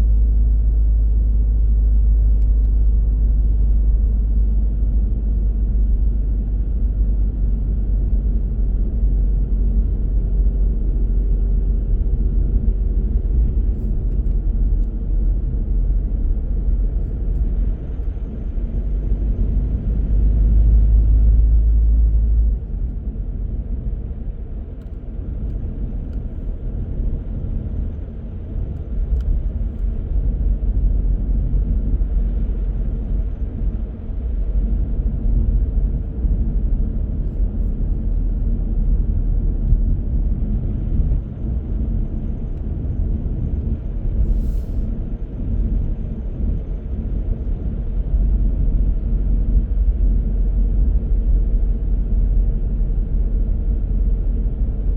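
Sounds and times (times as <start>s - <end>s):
car engine rumble: 0.0s - 54.9s.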